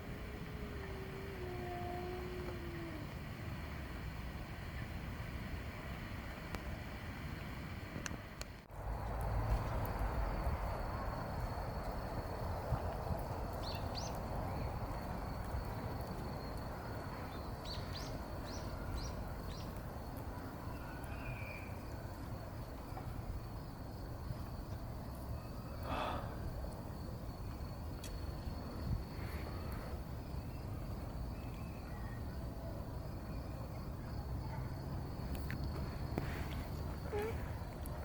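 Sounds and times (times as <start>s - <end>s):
background hiss: 0.0s - 38.0s.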